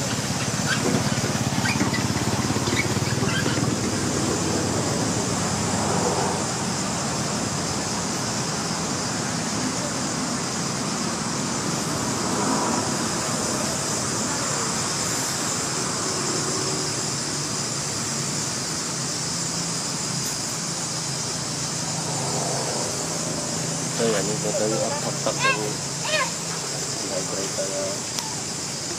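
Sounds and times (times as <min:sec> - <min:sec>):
outdoor hiss: 0:00.0 - 0:28.9.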